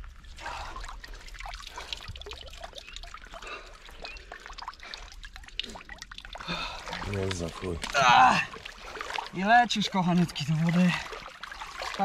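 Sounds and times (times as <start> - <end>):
small splashes in water: 0.0 - 12.0
water dripping and trickling: 0.0 - 12.0.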